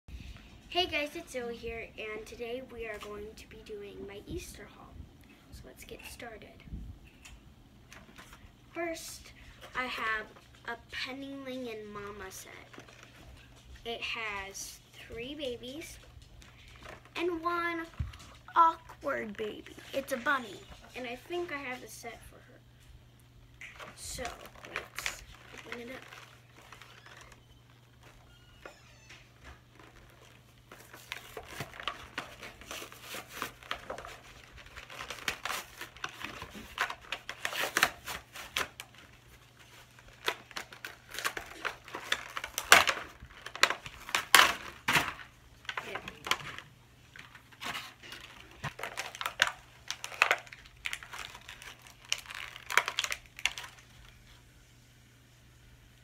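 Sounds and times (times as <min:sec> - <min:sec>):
plastic packaging crinkling and tearing: 0:07.9 - 0:22.1, 0:23.6 - 0:54.4.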